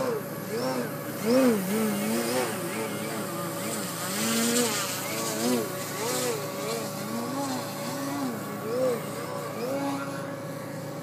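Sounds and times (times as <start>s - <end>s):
model plane motor buzzing: 0.0s - 11.0s.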